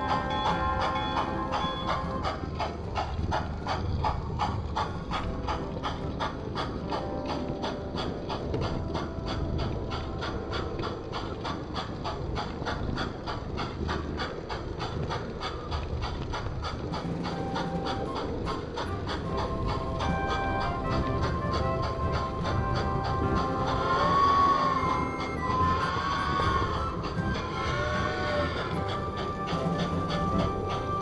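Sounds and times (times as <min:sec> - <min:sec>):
low mechanical rumble: 0:00.0 - 0:31.0
model steam locomotive chuffing: 0:00.0 - 0:31.0.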